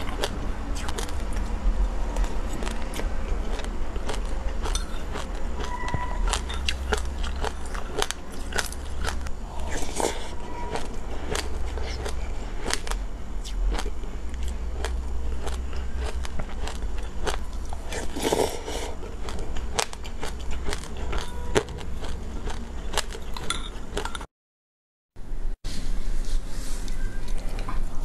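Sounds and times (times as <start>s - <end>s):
crunchy chewing of seeds: 0.0s - 24.2s
steady low hum: 0.0s - 24.3s.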